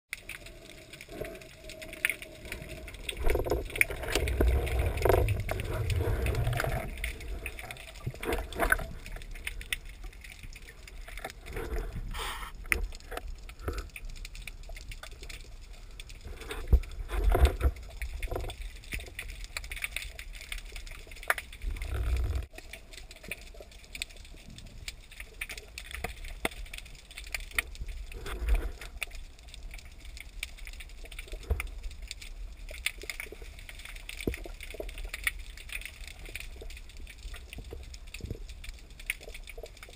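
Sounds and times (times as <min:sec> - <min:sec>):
faint underwater clicks: 0:00.1 - 0:39.9
underwater rumbles and thumps: 0:00.1 - 0:39.9.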